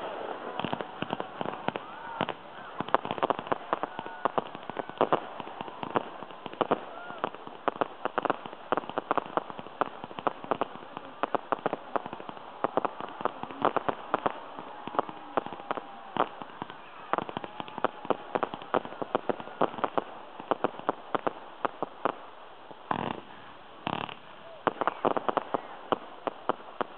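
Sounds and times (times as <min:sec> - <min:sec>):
fireworks bangs and pops: 0:00.0 - 0:26.9.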